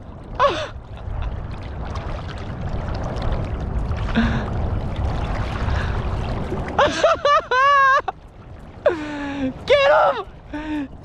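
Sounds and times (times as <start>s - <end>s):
low wind rumble: 0.0s - 11.0s
water sloshing and lapping: 0.0s - 11.0s.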